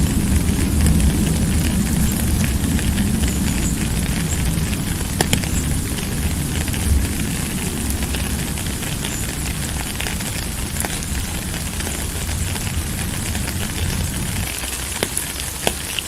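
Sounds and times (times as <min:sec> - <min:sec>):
deep low rumble: 0:00.0 - 0:15.6
sharp drip clicks: 0:00.0 - 0:16.0
steady rain patter: 0:00.0 - 0:16.0.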